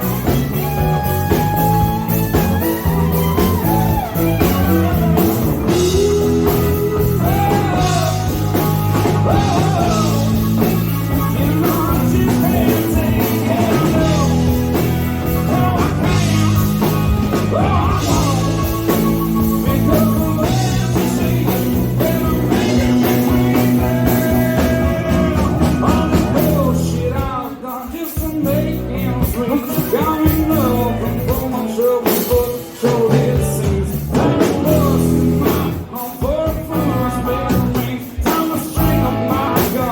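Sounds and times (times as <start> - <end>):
live rock and roll band: 0.0 - 39.9.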